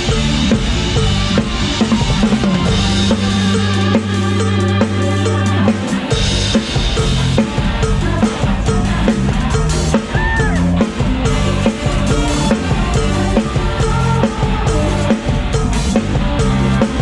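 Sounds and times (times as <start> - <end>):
bass notes: 0.0 - 17.0
drum kit beat: 0.0 - 17.0
live band playing upbeat music: 0.0 - 17.0.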